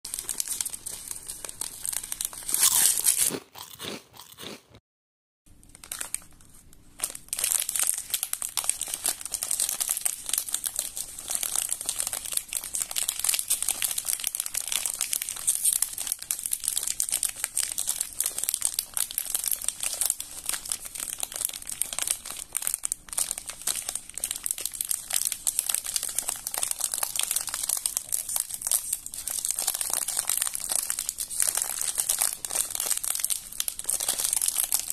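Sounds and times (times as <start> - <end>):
plastic wrapper crinkling: 0.1 - 3.4, 5.5 - 34.9.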